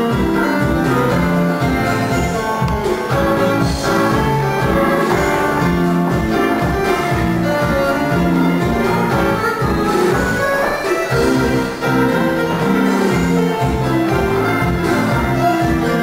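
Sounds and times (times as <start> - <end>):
instrumental music with beat: 0.0 - 16.0.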